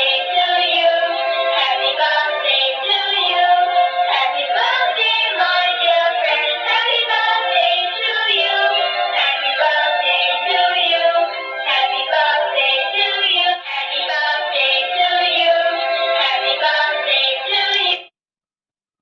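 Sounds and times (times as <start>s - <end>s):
tinny toy song with singing: 0.0s - 18.1s.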